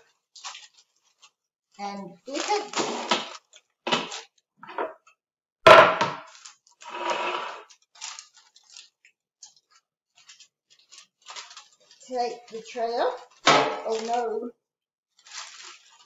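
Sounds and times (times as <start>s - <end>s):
baking paper rustling: 0.0s - 4.4s, 6.2s - 14.5s, 15.1s - 16.0s.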